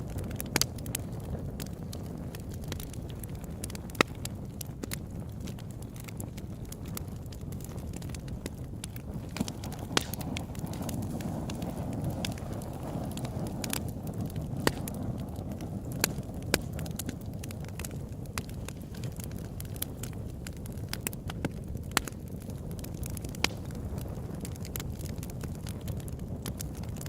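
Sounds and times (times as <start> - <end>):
burning wood crackling and popping: 0.0 - 27.0
campfire low rumble: 0.0 - 27.0.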